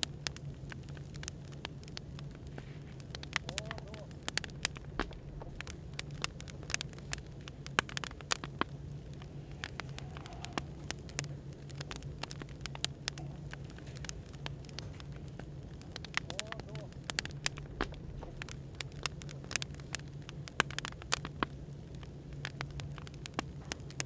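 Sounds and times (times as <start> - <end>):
cafe background hum: 0.0 - 24.0
firewood crackling and popping: 0.0 - 24.0.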